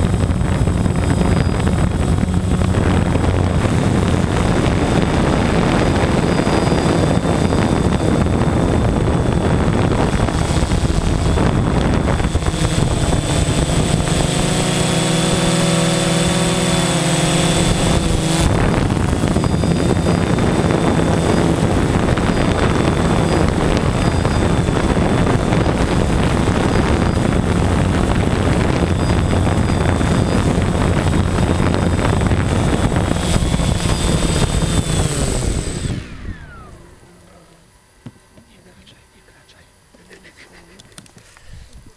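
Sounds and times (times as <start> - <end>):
drone propellers whirring: 0.0 - 38.4.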